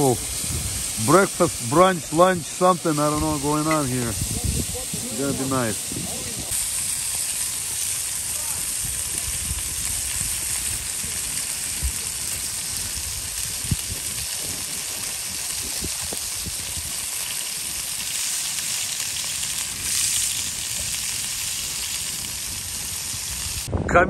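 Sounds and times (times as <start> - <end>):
meat sizzling in a skillet: 0.0 - 23.7.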